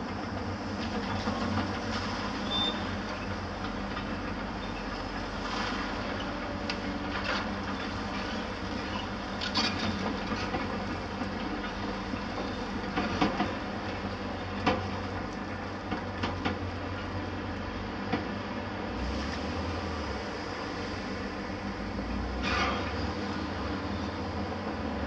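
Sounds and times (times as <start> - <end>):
heavy machinery engine drone: 0.0 - 25.0.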